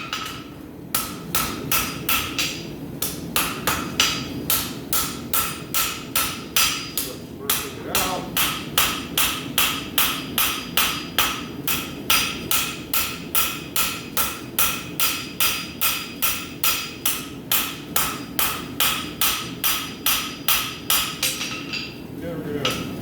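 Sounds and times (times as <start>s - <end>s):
hammer striking steel on anvil: 0.0s - 22.0s.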